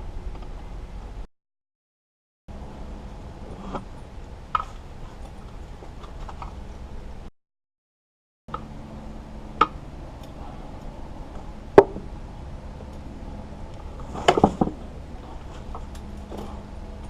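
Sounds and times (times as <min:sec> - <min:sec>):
steady low hum: 0:00.0 - 0:01.3, 0:02.5 - 0:07.3, 0:08.5 - 0:17.0.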